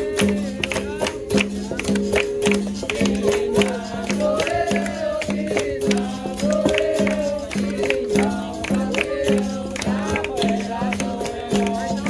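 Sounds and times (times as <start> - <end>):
sharp percussion strikes: 0.0 - 12.0.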